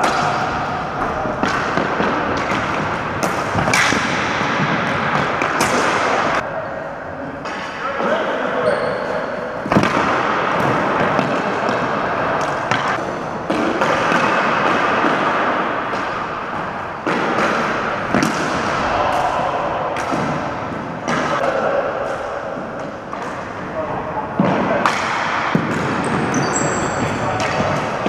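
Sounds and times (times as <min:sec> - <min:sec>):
hockey sticks clacking: 0:00.0 - 0:06.4, 0:09.6 - 0:23.6, 0:24.4 - 0:28.0.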